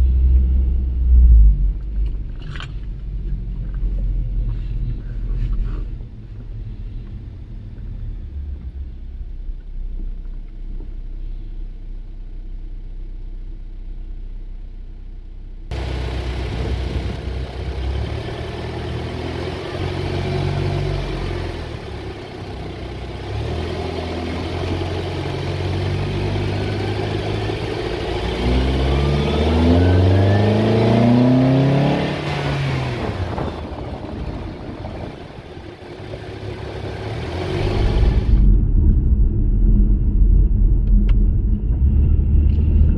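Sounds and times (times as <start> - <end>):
car engine driving: 0.0 - 42.9.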